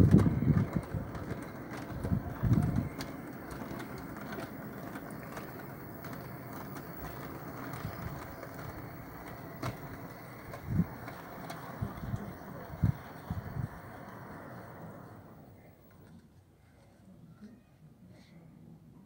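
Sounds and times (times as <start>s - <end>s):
model train wheels rumbling on rails: 0.0s - 16.3s.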